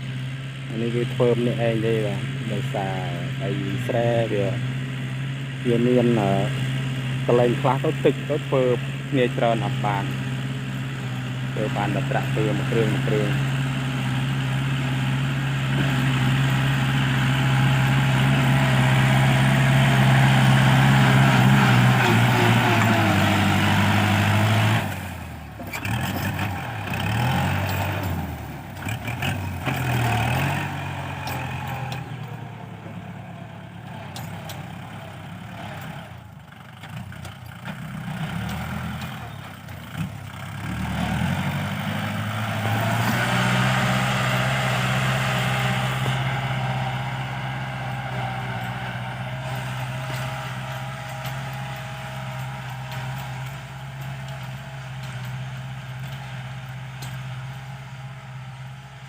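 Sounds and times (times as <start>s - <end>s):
tractor diesel engine working: 0.0s - 59.0s.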